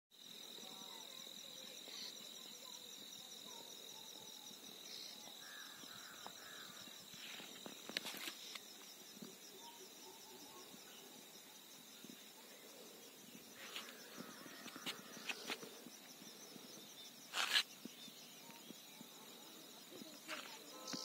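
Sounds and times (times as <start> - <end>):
insects trilling: 0.2 - 21.0.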